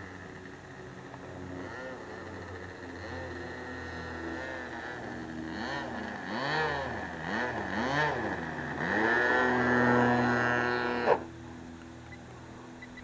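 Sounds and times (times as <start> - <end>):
model plane motor: 0.0 - 13.0.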